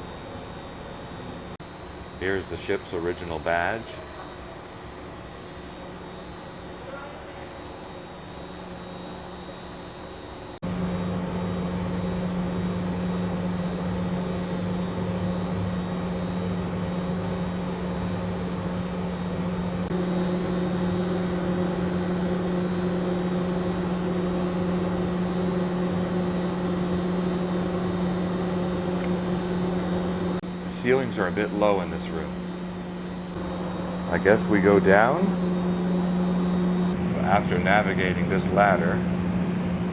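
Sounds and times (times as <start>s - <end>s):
ventilation machinery hum: 0.0s - 39.9s.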